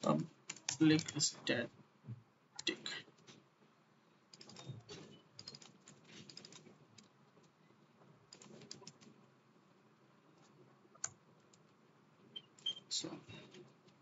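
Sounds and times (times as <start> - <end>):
faint keyboard typing: 0.0 - 1.8, 4.3 - 14.0.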